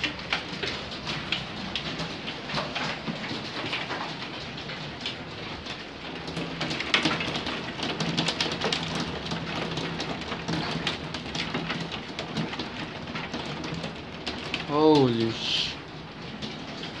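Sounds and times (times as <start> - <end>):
hailstones clattering on hard surfaces: 0.0 - 17.0
heavy rain: 0.0 - 17.0.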